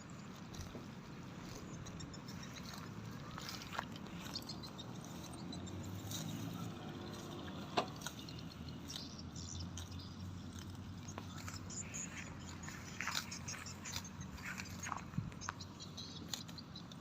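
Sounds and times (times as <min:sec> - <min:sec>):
cattle crunching fodder: 0:00.1 - 0:17.0.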